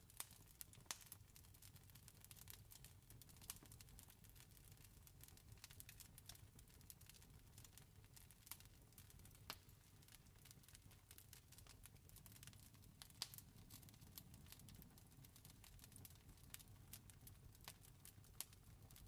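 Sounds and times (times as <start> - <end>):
campfire crackling: 0.1 - 19.0.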